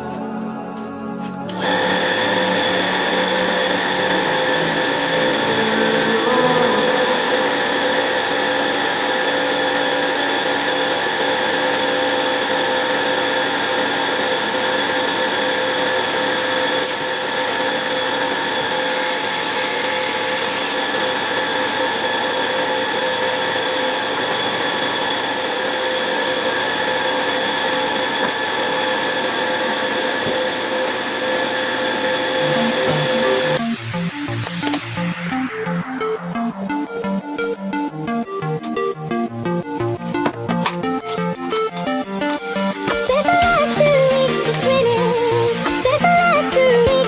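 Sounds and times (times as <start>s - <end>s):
air compressor motor whining: 0.0s - 47.0s.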